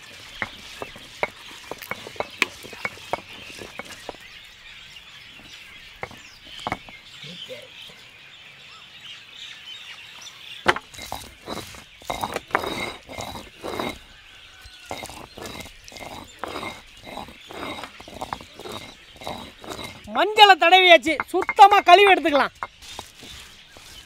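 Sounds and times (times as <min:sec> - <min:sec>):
stone roller scraping on slab: 0:00.0 - 0:04.5, 0:05.4 - 0:07.0, 0:10.7 - 0:24.0
faint birds chirping: 0:00.0 - 0:24.0.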